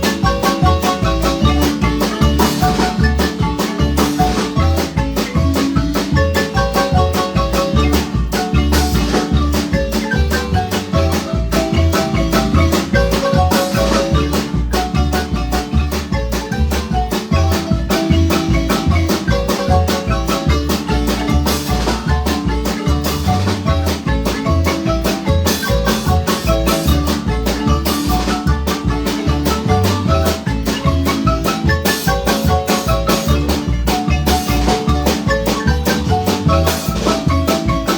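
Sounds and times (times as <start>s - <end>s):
marimba ensemble playing: 0.0s - 37.9s
repeating bass beat: 0.0s - 37.9s.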